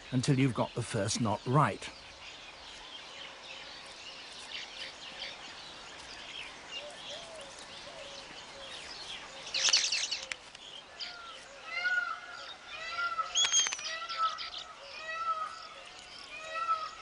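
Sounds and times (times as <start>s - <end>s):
birds chirping: 0.0s - 17.0s
steady background hiss: 0.0s - 17.0s.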